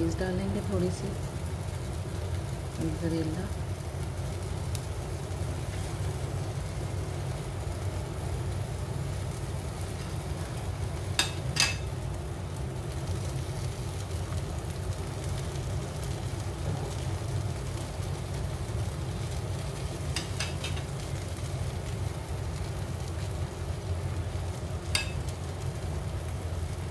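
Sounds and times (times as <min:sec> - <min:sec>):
low rumble of frying pan on gas hob: 0:00.0 - 0:26.9.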